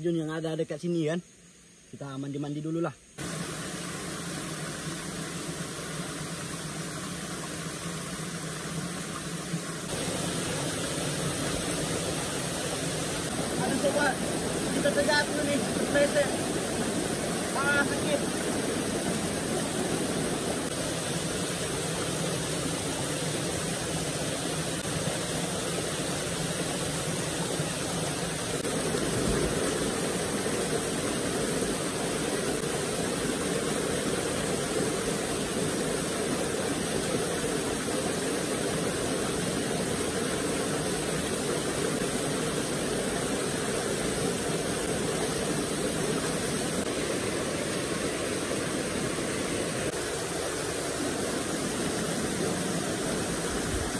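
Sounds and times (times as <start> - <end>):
white water rushing over weir: 3.2 - 53.9.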